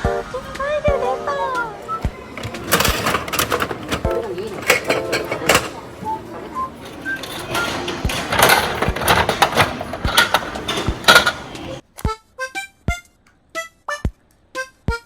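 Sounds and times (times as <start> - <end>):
plucked music notes: 0.0 - 15.0.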